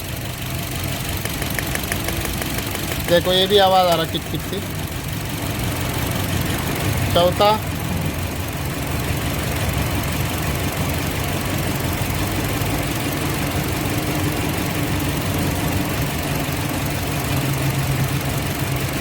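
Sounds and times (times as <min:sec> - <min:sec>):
car engine idling unevenly: 0:00.0 - 0:19.0.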